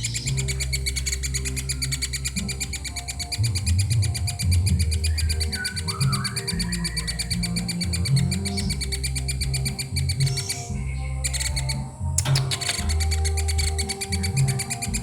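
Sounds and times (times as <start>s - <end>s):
background music with bass: 0.0s - 15.0s
woodpecker chattering call: 0.0s - 15.0s.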